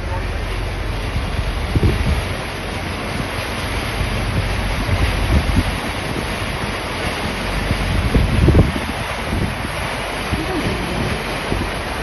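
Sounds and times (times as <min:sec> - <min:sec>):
steady rushing noise: 0:00.0 - 0:12.0
wind buffeting microphone: 0:00.0 - 0:12.0.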